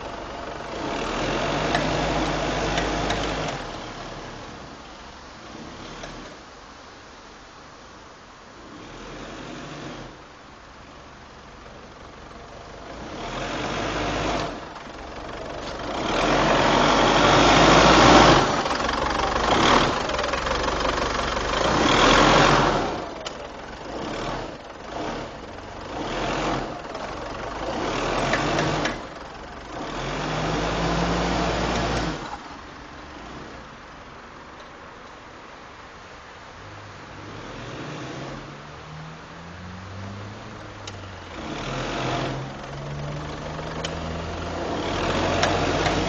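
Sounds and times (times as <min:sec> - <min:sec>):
truck engine revving: 0:00.0 - 0:06.4, 0:08.6 - 0:34.5, 0:36.6 - 0:46.0.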